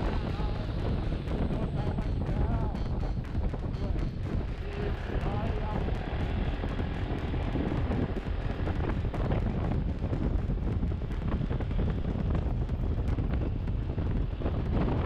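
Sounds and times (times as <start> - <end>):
motorbike engine: 0.0 - 15.0
road rumble: 0.0 - 15.0
wind buffeting microphone: 0.0 - 15.0.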